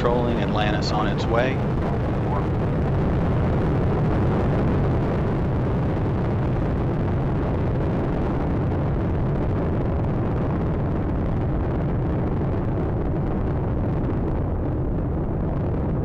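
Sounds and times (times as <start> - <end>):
deep rocket rumble: 0.0 - 16.0.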